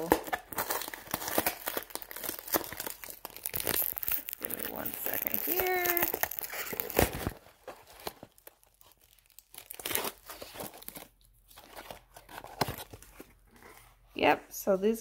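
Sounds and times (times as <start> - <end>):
cardboard box tearing: 0.0 - 13.7.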